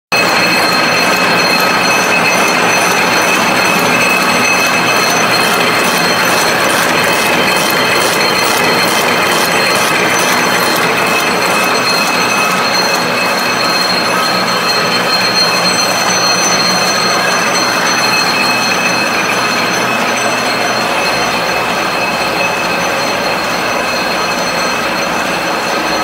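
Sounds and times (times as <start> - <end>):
high machine whine: 0.1 - 26.0
machine mechanical clatter: 0.1 - 26.0.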